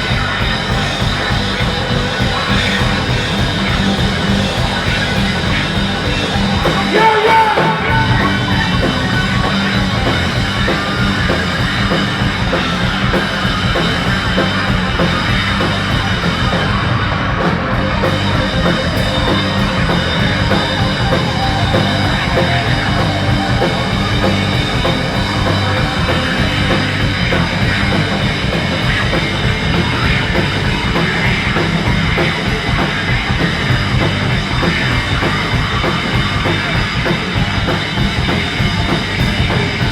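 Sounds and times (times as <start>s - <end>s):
distorted low-pitched guitars: 0.0s - 39.9s
drum kit: 0.0s - 39.9s
live heavy rock band: 0.0s - 39.9s.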